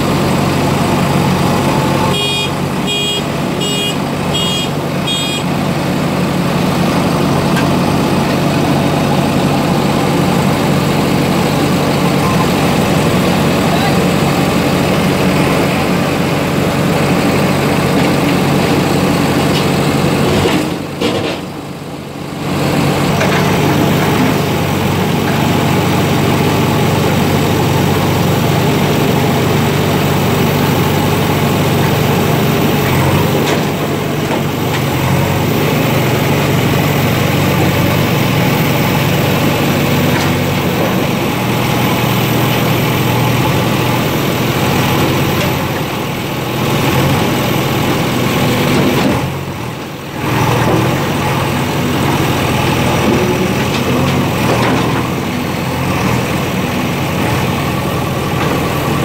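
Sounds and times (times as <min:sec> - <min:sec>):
diesel engines idling: 0:00.0 - 0:59.0.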